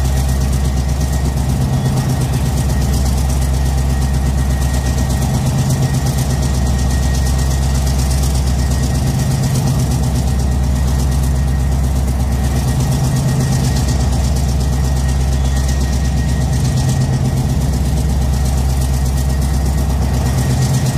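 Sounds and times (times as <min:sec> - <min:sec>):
diesel engine idling: 0:00.0 - 0:20.9
thin high whine: 0:00.0 - 0:20.9.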